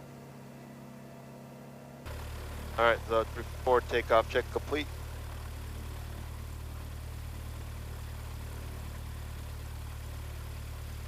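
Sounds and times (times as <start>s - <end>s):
aircraft piston engine droning: 0.0s - 11.0s
even hiss: 2.1s - 11.0s.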